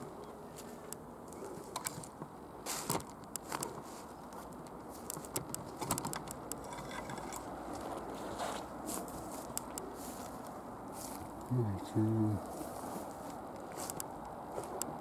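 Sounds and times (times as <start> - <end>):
footsteps on rough ground: 0.0 - 15.0.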